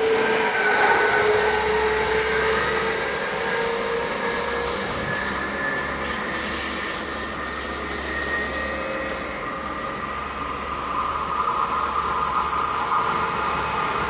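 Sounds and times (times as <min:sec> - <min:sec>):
high squeal from train wheels: 0:00.0 - 0:14.0
train running on track: 0:00.0 - 0:14.0.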